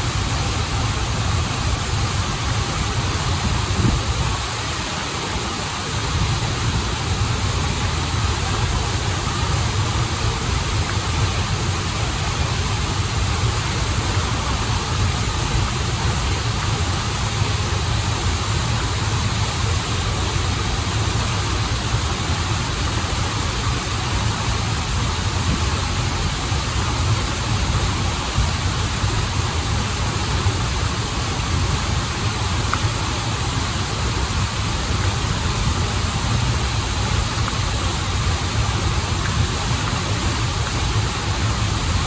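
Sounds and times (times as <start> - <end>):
waterfall and stream rushing: 0.0 - 42.0.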